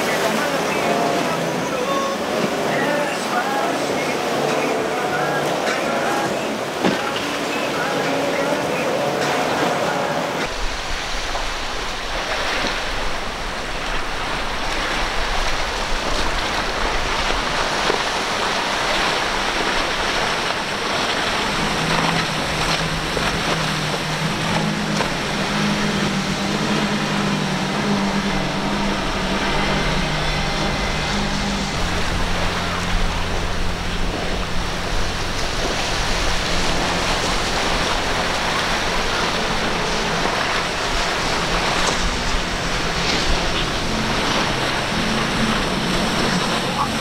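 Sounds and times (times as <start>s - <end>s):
outboard engine drone: 0.0s - 47.0s
water spray rushing: 0.0s - 47.0s.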